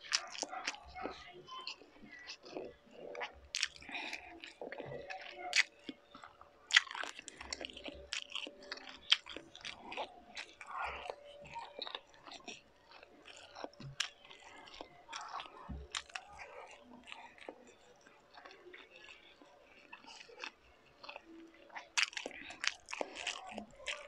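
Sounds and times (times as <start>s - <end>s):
close chewing with wet mouth clicks: 0.0s - 24.0s.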